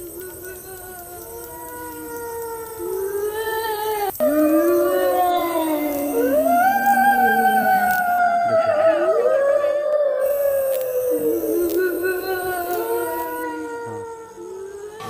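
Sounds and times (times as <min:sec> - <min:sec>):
dogs howling: 0:00.0 - 0:15.0.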